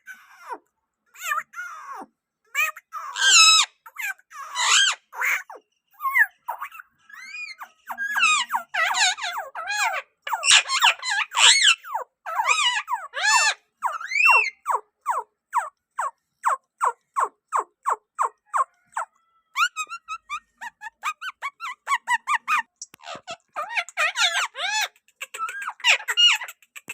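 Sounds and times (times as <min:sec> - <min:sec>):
parakeet downward-sliding squawks: 0:02.6 - 0:26.5
parakeet squeaky chattering calls: 0:02.6 - 0:26.6.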